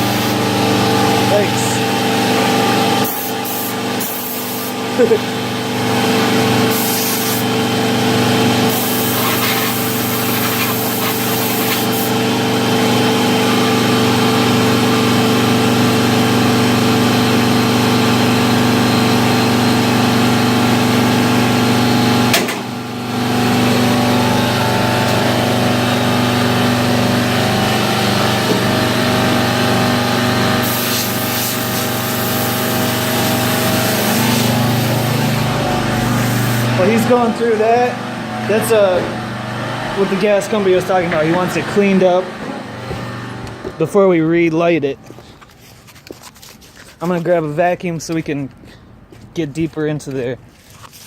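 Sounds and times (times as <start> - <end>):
electric motor with air rush: 0.0 - 43.8.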